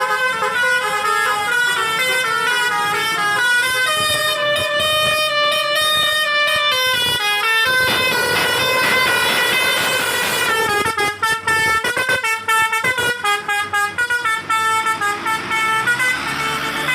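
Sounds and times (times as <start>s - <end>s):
musical air horn playing a tune: 0.0s - 16.9s.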